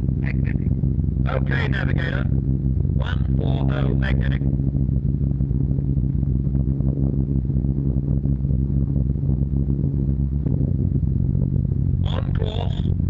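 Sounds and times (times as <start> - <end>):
aircraft piston engines droning: 0.0 - 13.0.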